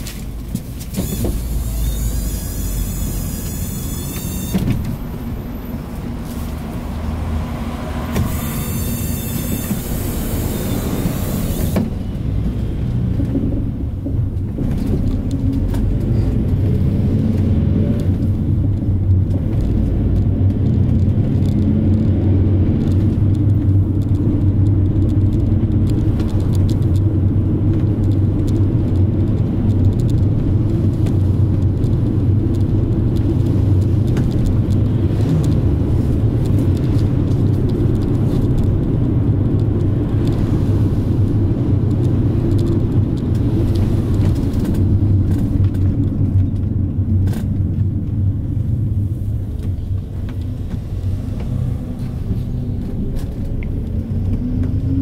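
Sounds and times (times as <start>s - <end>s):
engine droning: 0.0s - 55.0s
tyres rumbling on road: 0.0s - 55.0s.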